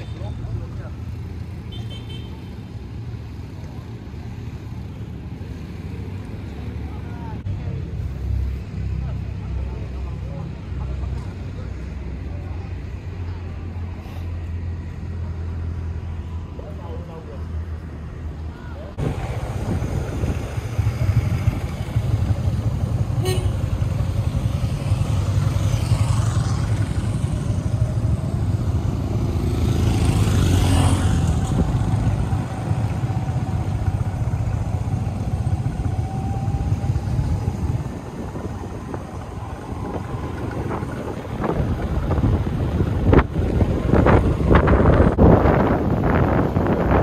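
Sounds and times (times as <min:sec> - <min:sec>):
road and wind noise: 0:00.0 - 0:47.0.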